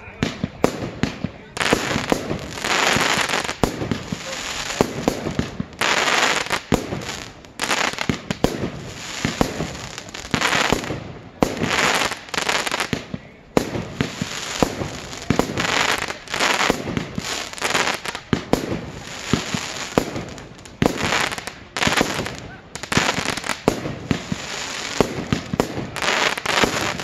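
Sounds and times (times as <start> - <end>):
fireworks bangs: 0.0 - 27.0
fireworks crackling and hissing: 0.0 - 27.0.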